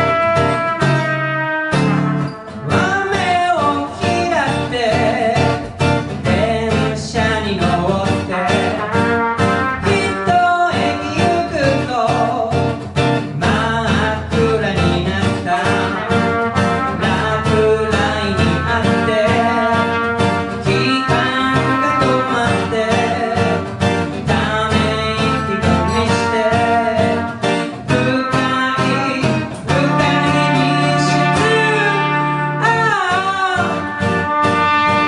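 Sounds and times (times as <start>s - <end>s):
guitar accompaniment: 0.0s - 35.0s.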